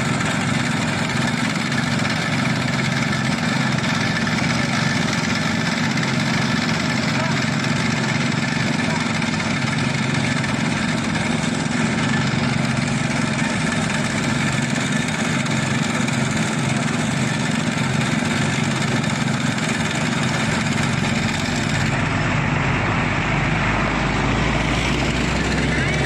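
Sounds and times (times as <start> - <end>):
diesel engine running steadily: 0.0 - 26.0.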